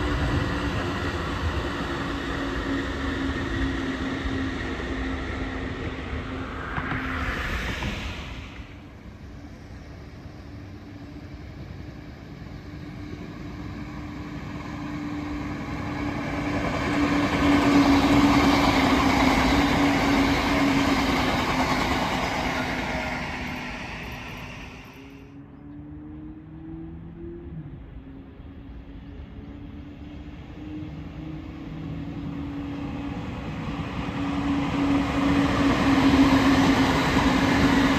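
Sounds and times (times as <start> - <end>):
electric train passing: 0.0 - 25.6, 26.6 - 37.9.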